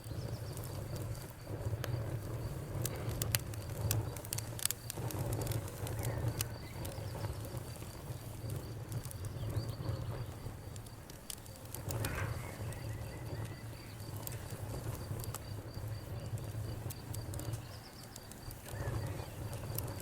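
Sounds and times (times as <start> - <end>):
fire hiss: 0.0 - 20.0
wood fire crackling: 0.0 - 20.0.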